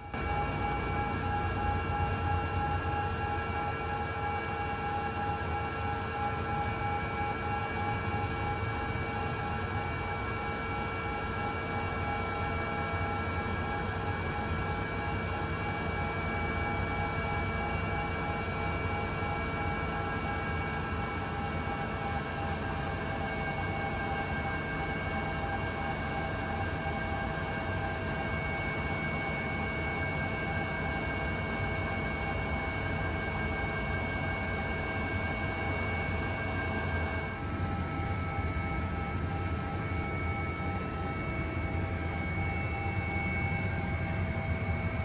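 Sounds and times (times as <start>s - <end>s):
high turbine whines: 0.0s - 45.0s.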